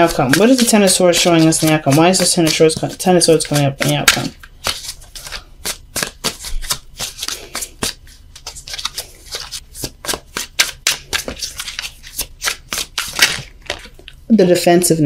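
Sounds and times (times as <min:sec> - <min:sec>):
cards being shuffled: 0:00.0 - 0:14.2.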